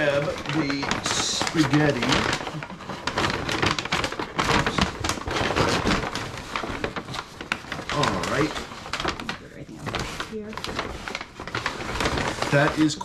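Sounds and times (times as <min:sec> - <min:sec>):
paper bag rustling: 0:00.0 - 0:13.0.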